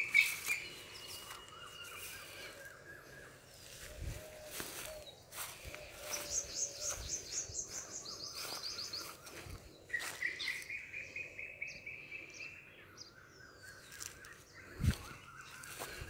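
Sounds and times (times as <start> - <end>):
birds trilling: 0.0 - 16.0.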